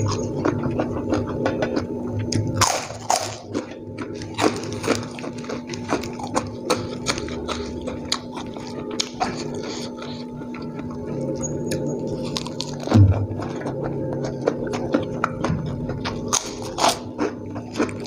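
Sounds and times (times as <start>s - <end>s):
wet chewing and lip smacking: 0.0s - 18.0s.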